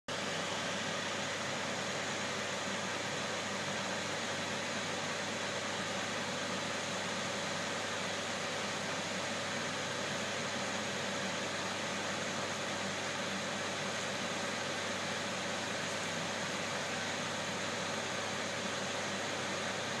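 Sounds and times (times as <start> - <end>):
constant machine hum: 0.1 - 20.0.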